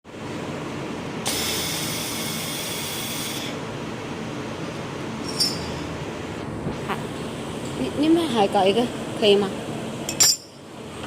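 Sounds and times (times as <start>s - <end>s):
machine running hum: 0.1s - 11.0s.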